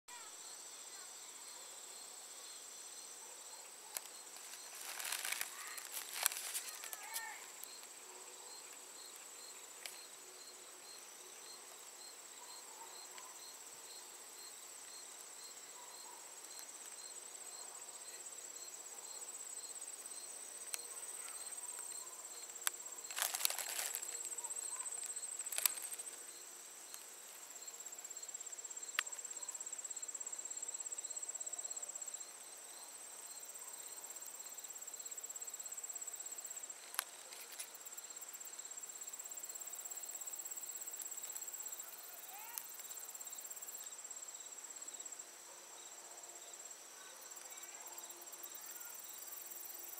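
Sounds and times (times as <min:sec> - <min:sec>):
crickets chirping: 0:00.1 - 0:49.9
rustle: 0:00.1 - 0:49.9.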